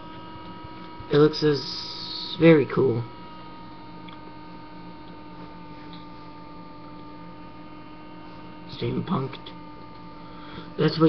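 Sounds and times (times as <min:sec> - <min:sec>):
electrical hum: 0:00.0 - 0:11.0
thin constant whine: 0:00.0 - 0:11.0.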